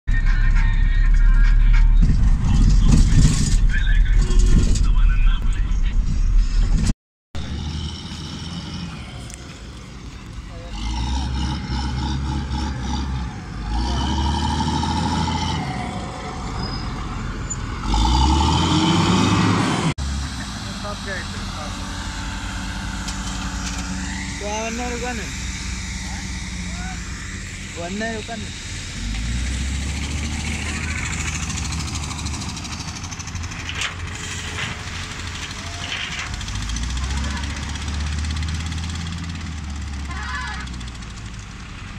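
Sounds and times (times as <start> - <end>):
diesel engine running under load: 7.4 - 41.9.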